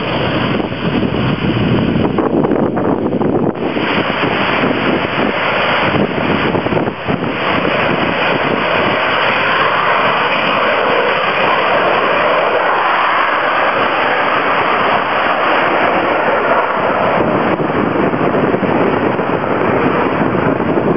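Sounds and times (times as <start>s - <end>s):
aircraft rocket roar: 0.0s - 20.9s.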